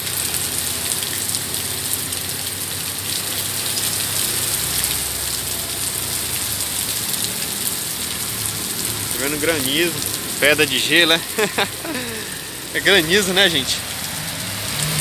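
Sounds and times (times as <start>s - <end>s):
heavy rain pouring: 0.0s - 15.0s
raindrops ticking on surfaces: 0.0s - 15.0s.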